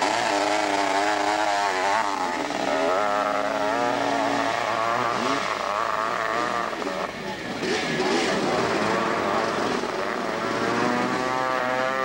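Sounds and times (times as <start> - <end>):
dirt bike engine at full throttle: 0.0 - 12.0.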